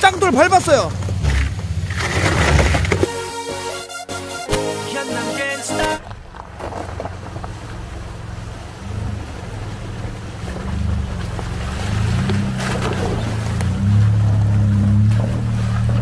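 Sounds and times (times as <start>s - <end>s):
water splashing around tyres: 0.0s - 3.1s, 6.0s - 16.0s
truck engine rumble: 0.0s - 4.4s, 6.0s - 16.0s.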